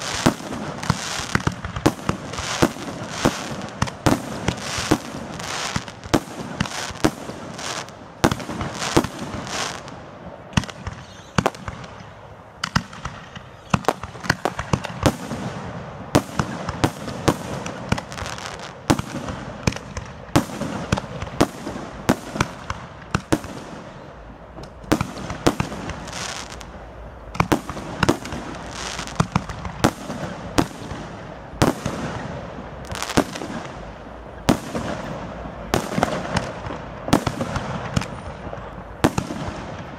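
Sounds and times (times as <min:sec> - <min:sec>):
fireworks bursting with bangs: 0:00.0 - 0:39.9
fireworks crackle: 0:00.0 - 0:39.9.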